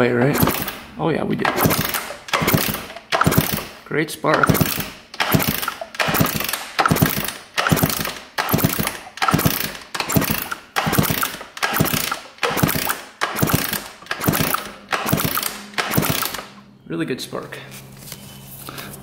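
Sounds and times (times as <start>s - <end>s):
ratchety kick-starter spins: 0.0s - 0.8s, 1.4s - 3.8s, 4.4s - 16.5s.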